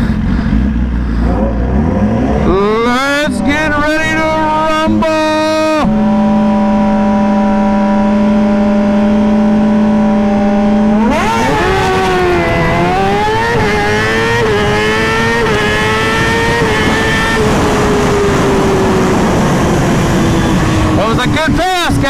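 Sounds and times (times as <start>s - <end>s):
motorcycle engine revving and accelerating: 0.0s - 22.0s
wind noise: 1.2s - 22.0s.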